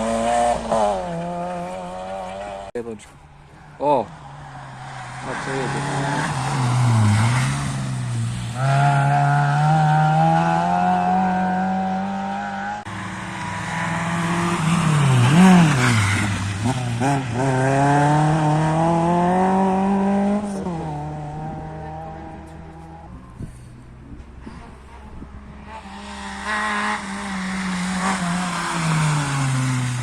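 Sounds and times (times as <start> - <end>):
rally car engine accelerating: 0.0 - 2.7, 4.8 - 30.0.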